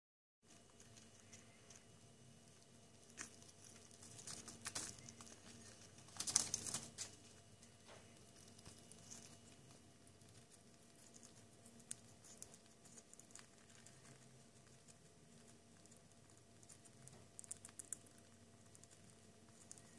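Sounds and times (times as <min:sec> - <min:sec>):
rats nibbling and crunching: 0:00.4 - 0:19.9.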